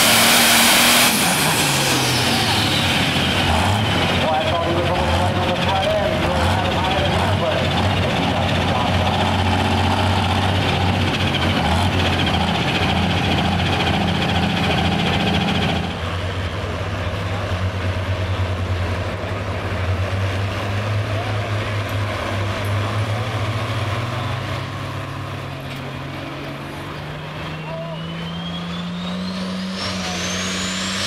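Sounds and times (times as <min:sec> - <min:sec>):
tractor diesel engines idling: 0:00.0 - 0:29.4.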